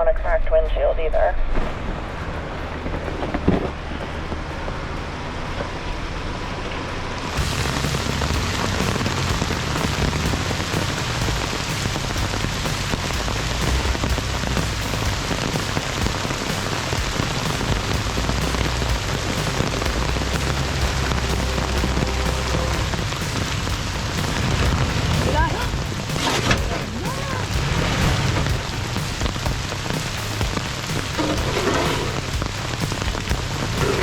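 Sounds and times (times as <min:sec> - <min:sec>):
low rumble: 0:00.0 - 0:34.0
heavy rain hiss: 0:06.0 - 0:34.0.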